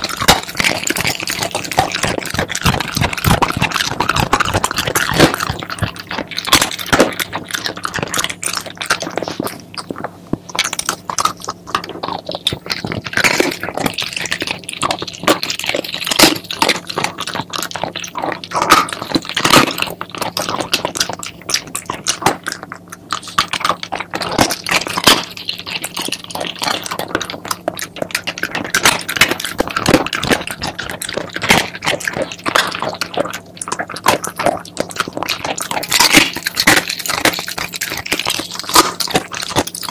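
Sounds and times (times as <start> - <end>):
dog crunching bones: 0.0 - 39.9.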